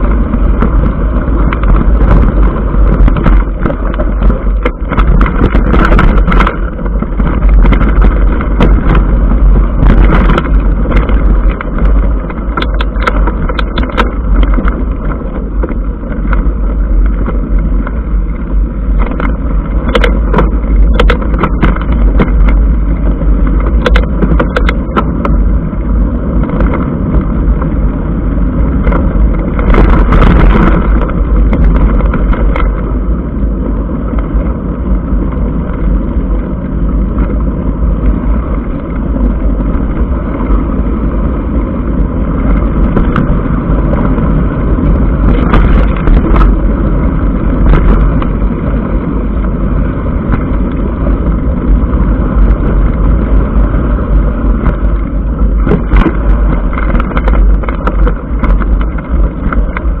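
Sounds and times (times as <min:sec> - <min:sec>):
bike rattles and clicks: 0:00.0 - 1:00.0
tyres on gravel: 0:00.0 - 1:00.0
wind and vibration rumble: 0:00.0 - 1:00.0.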